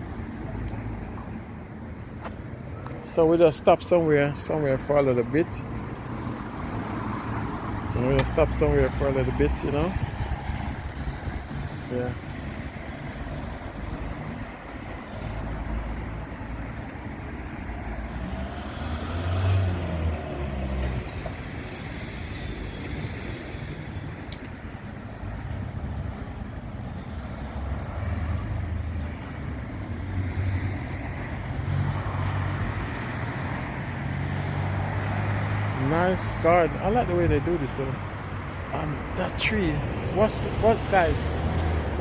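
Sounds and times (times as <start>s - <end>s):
vehicle engine rumble: 0.0s - 30.5s, 31.1s - 42.0s
road noise: 0.0s - 42.0s.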